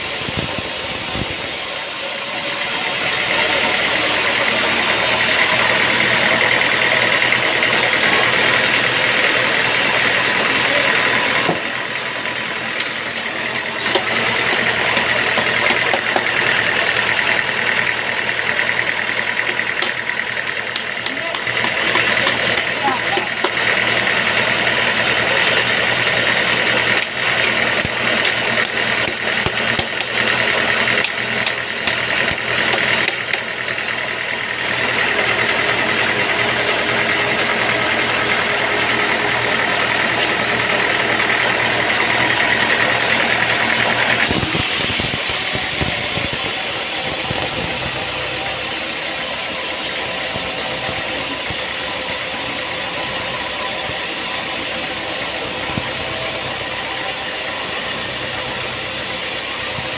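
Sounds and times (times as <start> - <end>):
engine running: 0.0 - 59.9
sawmill machinery noise: 0.0 - 59.9.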